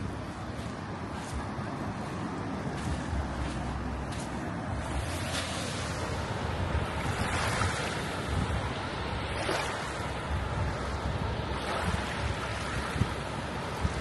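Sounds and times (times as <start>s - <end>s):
small waves washing over sand: 0.0s - 14.0s
wind rumble on microphone: 0.0s - 14.0s.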